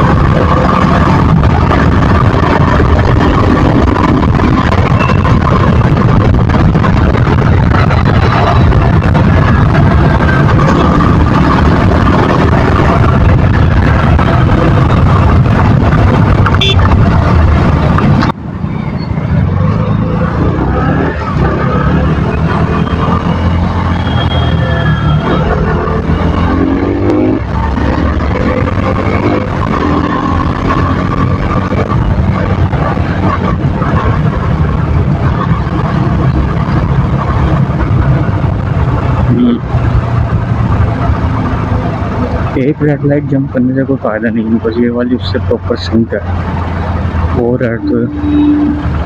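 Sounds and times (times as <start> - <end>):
wind rush: 0.0 - 43.1, 43.9 - 49.0
motorcycle engine and exhaust: 0.0 - 49.0.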